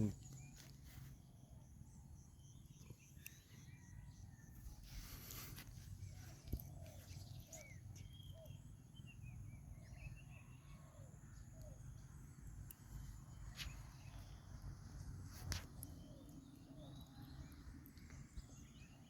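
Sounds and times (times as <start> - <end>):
distant bird chirps: 0.0 - 19.0.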